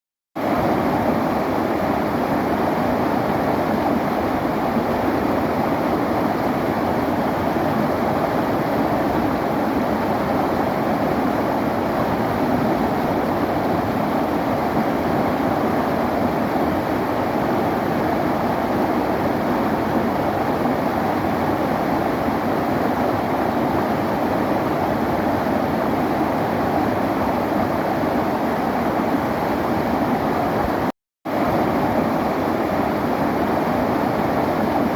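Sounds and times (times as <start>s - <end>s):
river water flowing: 0.4s - 34.9s.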